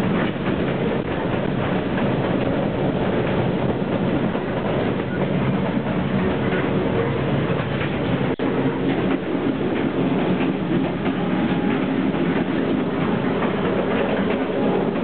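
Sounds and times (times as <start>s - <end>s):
train rumble and rattle: 0.0s - 15.0s
wheels and couplings clacking: 0.0s - 15.0s.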